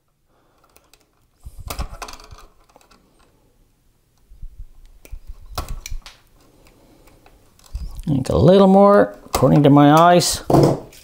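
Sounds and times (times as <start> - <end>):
wire strippers clicking and scraping: 0.0 - 3.4, 4.2 - 11.0.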